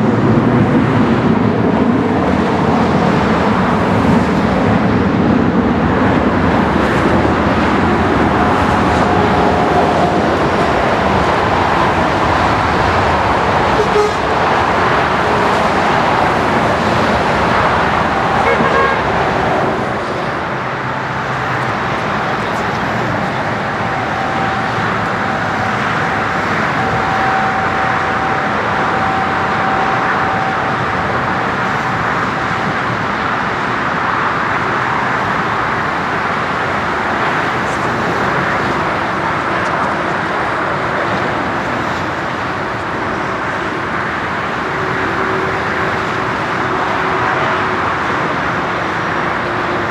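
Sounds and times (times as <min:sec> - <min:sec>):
faint jet engine whine: 0:00.0 - 0:49.9
jet engines rushing: 0:00.0 - 0:49.9.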